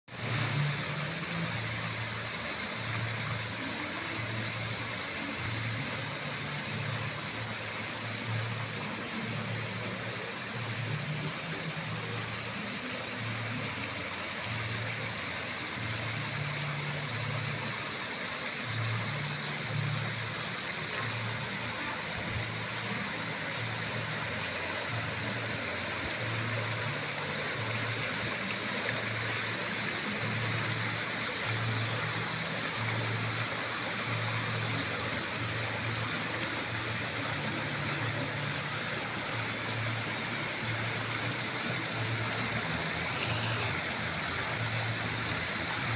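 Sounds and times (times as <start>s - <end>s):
fountain water cascading: 0.1s - 45.9s.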